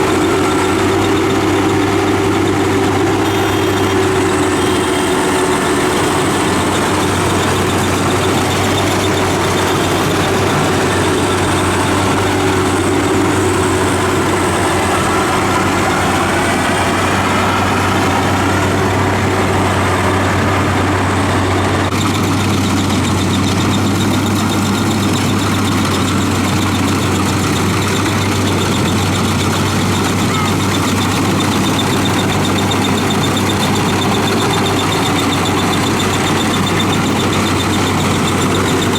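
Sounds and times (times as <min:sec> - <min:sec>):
combine harvester engine hum: 0:00.0 - 0:38.9
machinery rattling: 0:00.0 - 0:38.9.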